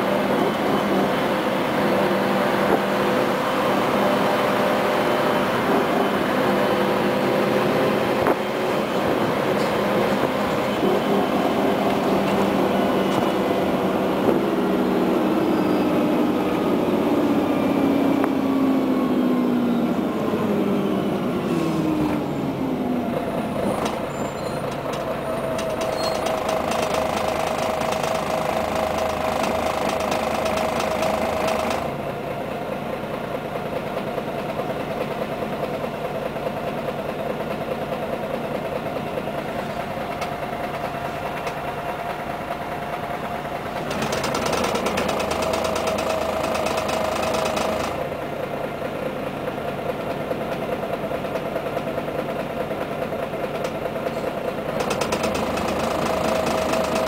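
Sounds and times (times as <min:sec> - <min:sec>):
bus engine whine: 0:00.0 - 0:57.0
bus idling hum: 0:00.0 - 0:57.0.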